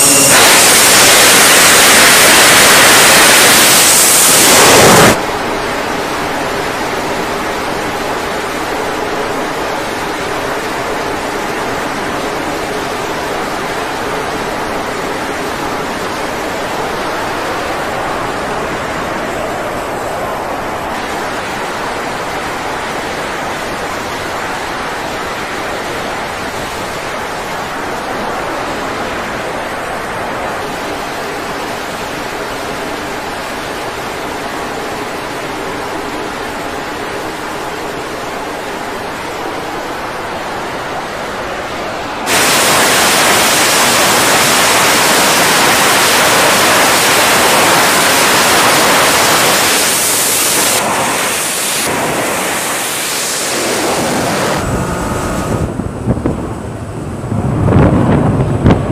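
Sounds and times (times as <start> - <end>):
jet at full power: 0.0 - 36.5, 37.2 - 58.9
jet engines rushing: 0.0 - 58.9.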